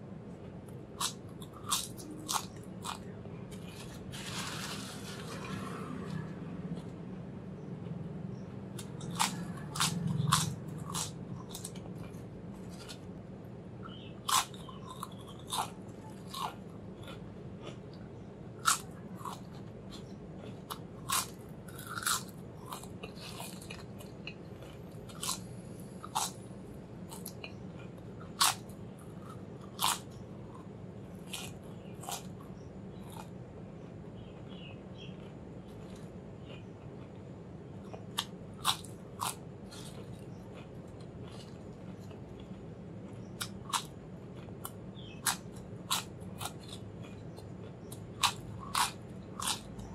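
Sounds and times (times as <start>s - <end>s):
potato chips crunching: 1.0s - 6.9s, 8.7s - 13.1s, 13.9s - 18.0s, 18.6s - 26.4s, 27.1s - 33.3s, 37.8s - 49.9s.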